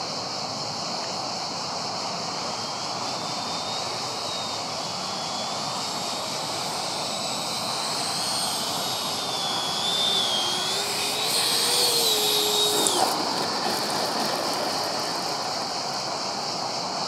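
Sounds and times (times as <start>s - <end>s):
electric fan whining: 1.6s - 17.0s
steady rushing noise: 3.0s - 17.0s.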